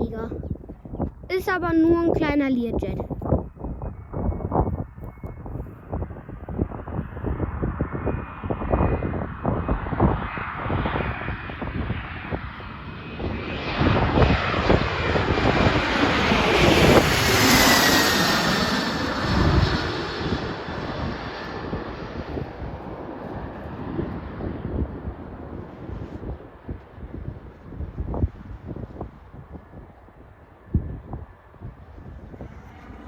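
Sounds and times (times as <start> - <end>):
wind buffeting microphone: 0.0 - 33.0
jet passing close by: 3.2 - 33.0.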